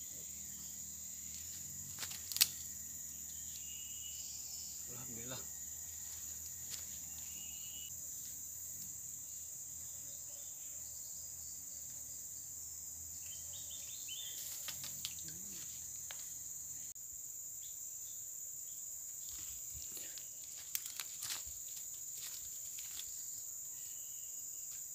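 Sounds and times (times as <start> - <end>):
insect chorus: 0.0 - 24.9.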